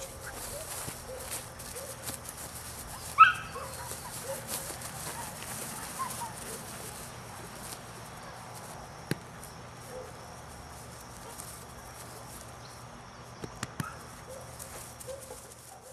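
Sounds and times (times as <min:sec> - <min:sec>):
insects chirring: 0:00.0 - 0:15.9.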